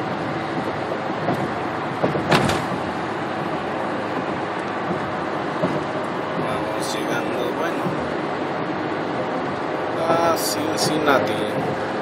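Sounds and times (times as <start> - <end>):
car tyre and engine noise: 0.0 - 12.0.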